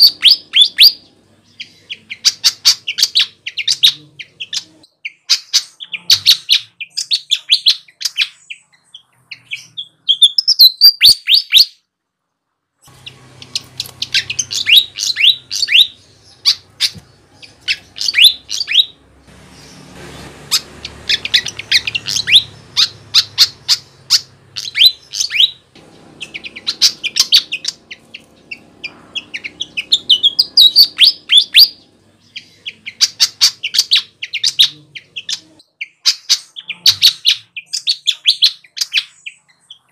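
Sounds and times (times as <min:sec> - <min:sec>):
bird singing high chirps: 0:00.0 - 0:11.8, 0:12.9 - 0:39.9.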